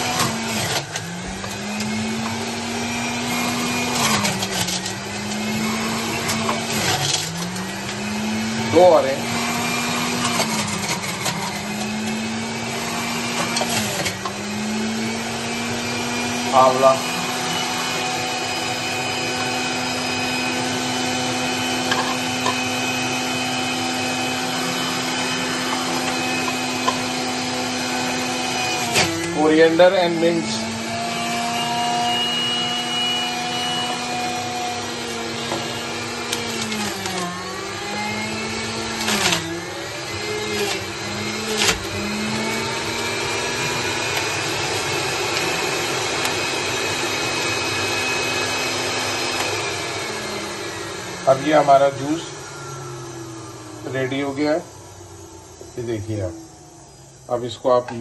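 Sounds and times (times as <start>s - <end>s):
fruit grinding noise: 0.0s - 58.0s
juicer motor hum: 0.0s - 58.0s.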